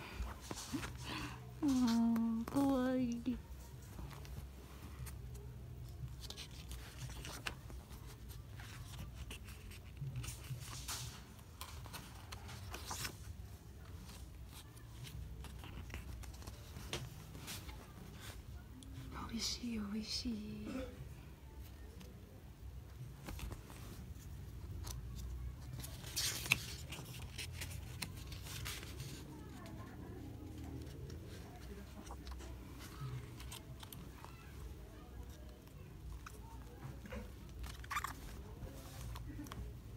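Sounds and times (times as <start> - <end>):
book pages turning and rustling: 0.0 - 19.1, 21.6 - 39.9.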